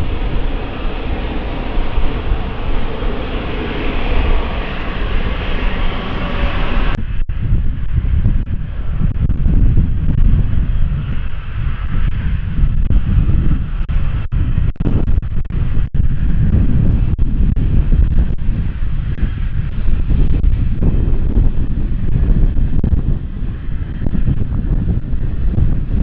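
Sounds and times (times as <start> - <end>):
airliner engines rushing: 0.0 - 26.0
low rumble: 0.0 - 26.0
wind on microphone: 0.0 - 26.0.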